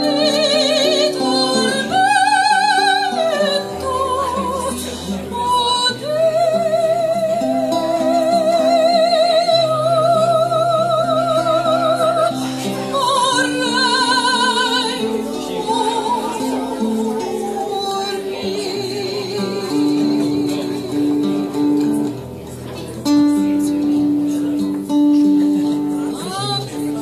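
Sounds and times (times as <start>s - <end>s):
person singing with vibrato: 0.0s - 21.7s
plucked acoustic guitar: 0.0s - 27.0s.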